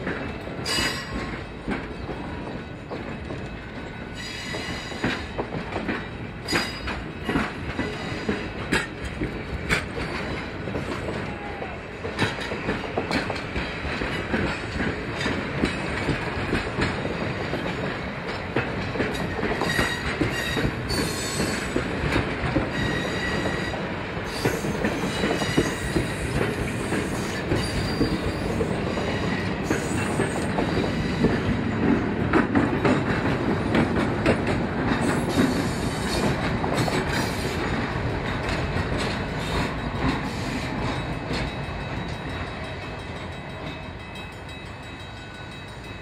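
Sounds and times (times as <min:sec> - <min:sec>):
wheels clicking over rail joints: 0:00.0 - 0:46.0.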